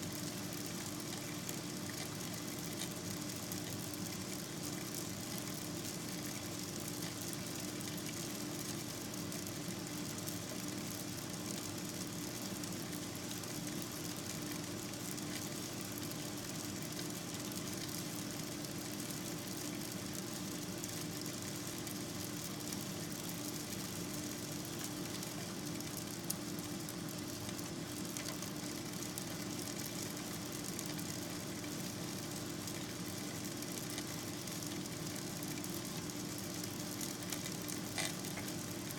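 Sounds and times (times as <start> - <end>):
steady hum and hiss: 0.0 - 38.9.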